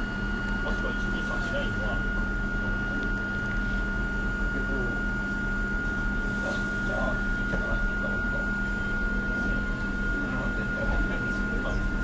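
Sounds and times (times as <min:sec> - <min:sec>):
train electrical hum and whine: 0:00.0 - 0:12.0.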